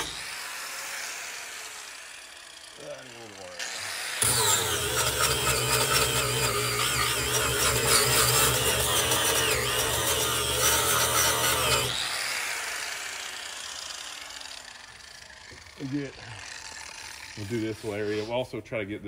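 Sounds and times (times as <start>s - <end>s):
angle grinder grinding metal: 0.0s - 18.6s.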